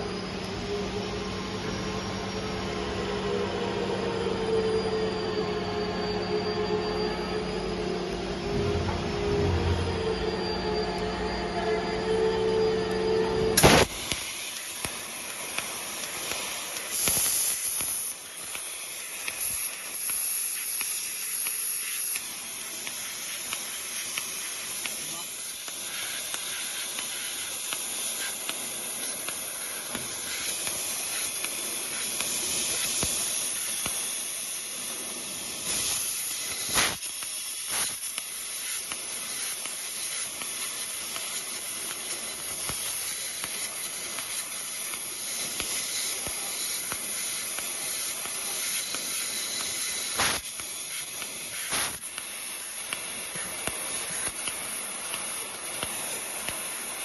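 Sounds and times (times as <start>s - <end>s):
laser cutter high hiss: 0.0s - 57.0s.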